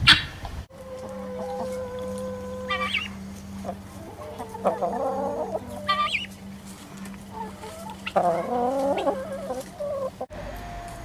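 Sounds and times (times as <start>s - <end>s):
chickens clucking: 0.0s - 11.0s
guineafowl calling: 0.0s - 11.0s.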